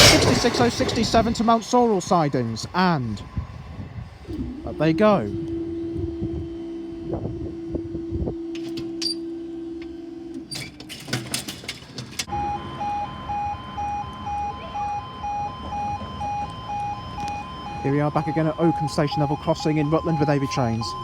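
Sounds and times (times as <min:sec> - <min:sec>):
level crossing warning pulses: 0:00.0 - 0:10.6, 0:12.2 - 0:21.0
crossing barriers rising with hum: 0:00.0 - 0:21.0.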